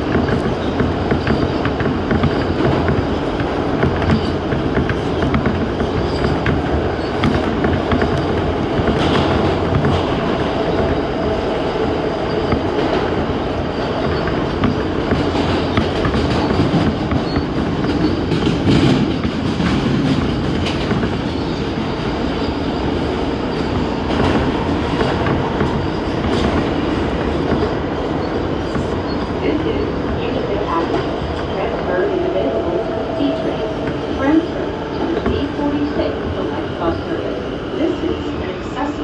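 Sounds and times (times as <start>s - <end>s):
wheels clicking over rail joints: 0.0s - 31.9s
subway train rumbling at speed: 0.0s - 39.0s.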